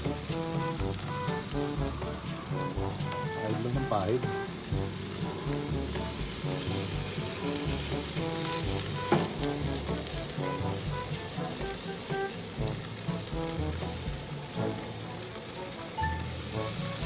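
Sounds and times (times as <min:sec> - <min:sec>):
background music: 0:00.0 - 0:17.0
ribs sizzling on grill: 0:00.0 - 0:17.0.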